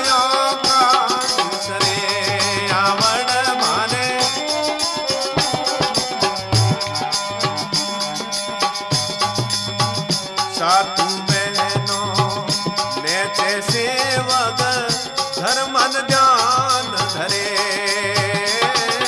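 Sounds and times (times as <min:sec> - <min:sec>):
person singing: 0:00.0 - 0:06.9, 0:10.6 - 0:19.0
drum beat: 0:00.1 - 0:19.0
held tones: 0:00.4 - 0:18.6.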